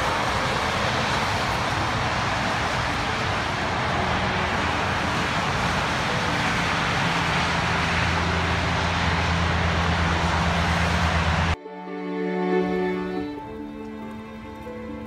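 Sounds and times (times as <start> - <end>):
tyres rushing on wet pavement: 0.0 - 11.6, 12.3 - 15.0
low engine drone: 0.0 - 15.0.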